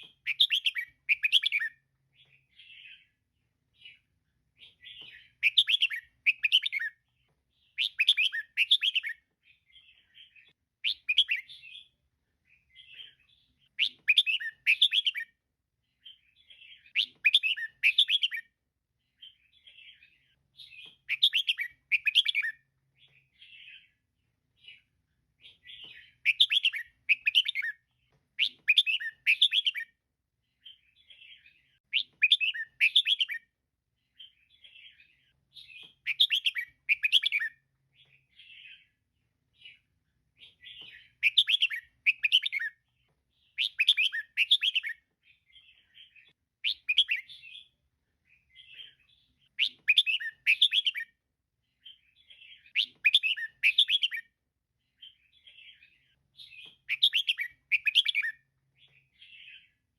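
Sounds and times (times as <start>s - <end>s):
soft bird chatter: 0.0s - 59.9s.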